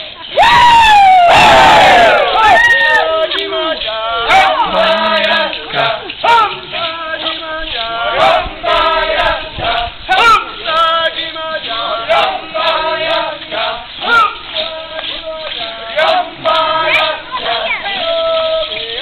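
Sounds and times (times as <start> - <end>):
group chanting call and response: 0.0 - 19.0.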